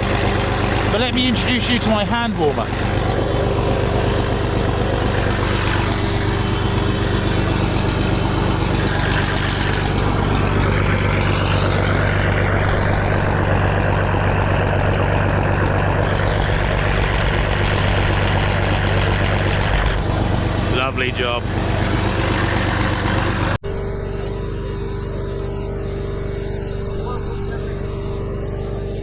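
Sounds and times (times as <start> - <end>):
large vehicle engine droning: 0.0 - 29.0.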